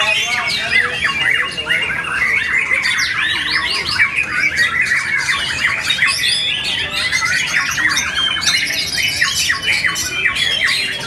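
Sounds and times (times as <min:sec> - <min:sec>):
birds singing whistles and trills: 0:00.0 - 0:11.0.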